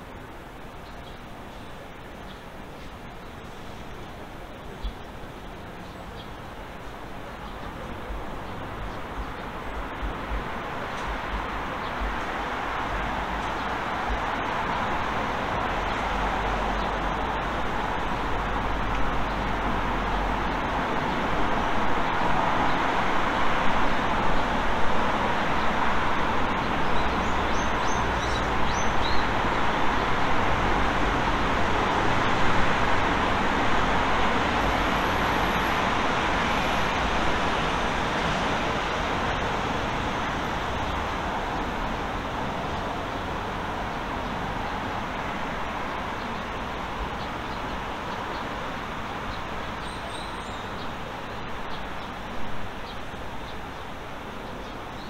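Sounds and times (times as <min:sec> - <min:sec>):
road traffic hum: 0:00.0 - 0:55.0.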